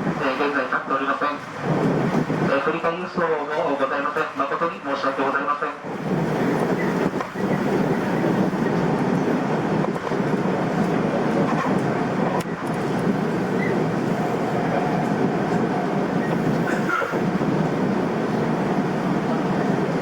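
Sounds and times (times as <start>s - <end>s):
train wheels on rail: 0.0s - 4.8s, 5.8s - 20.0s.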